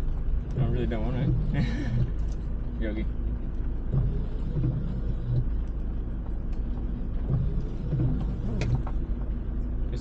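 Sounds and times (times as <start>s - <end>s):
van engine and tyres rumbling: 0.0s - 10.0s.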